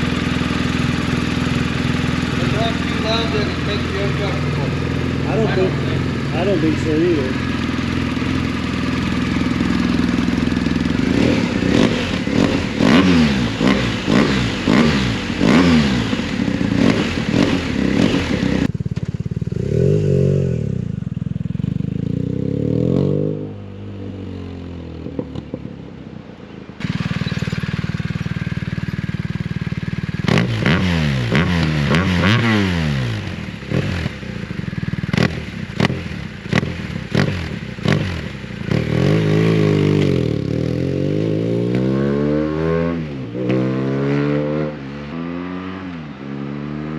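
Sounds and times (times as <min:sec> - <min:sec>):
motorcycle engine revving: 0:00.0 - 0:25.8, 0:26.8 - 0:46.9.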